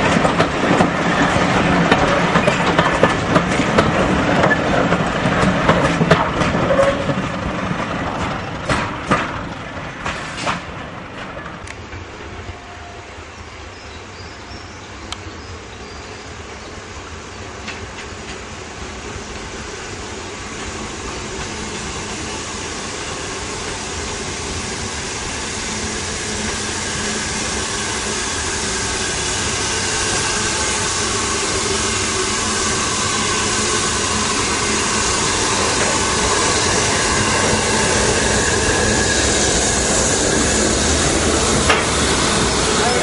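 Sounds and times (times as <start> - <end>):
steam locomotive rushing rumble: 0.0 - 43.0.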